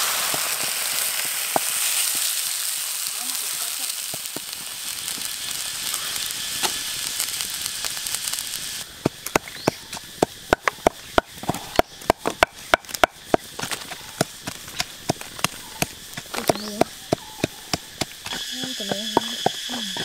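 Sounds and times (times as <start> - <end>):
wok sizzling: 0.0 - 20.0
wood fire crackling and popping: 0.0 - 20.0.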